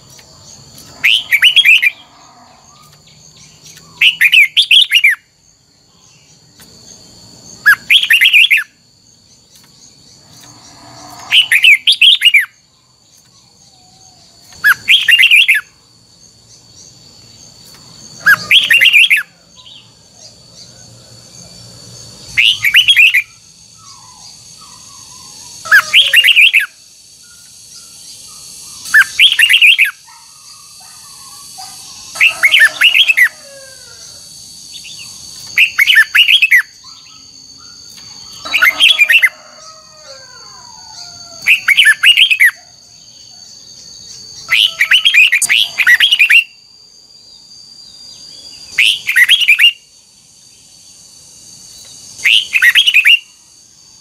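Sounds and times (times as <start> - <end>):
bird warbling song: 0.0 - 5.2, 6.0 - 15.7, 16.4 - 21.6, 22.2 - 39.4, 40.1 - 46.5, 51.9 - 53.3.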